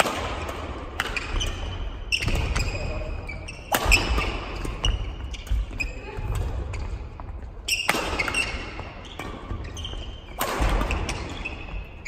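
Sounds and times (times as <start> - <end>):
rackets hitting shuttlecock: 0.0 - 7.0, 7.6 - 12.0.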